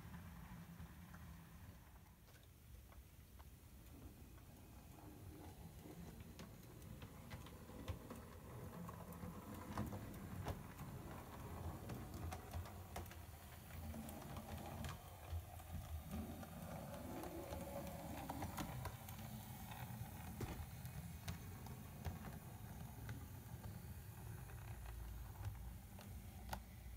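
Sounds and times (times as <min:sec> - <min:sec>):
model train wheels clicking: 0:00.0 - 0:26.9.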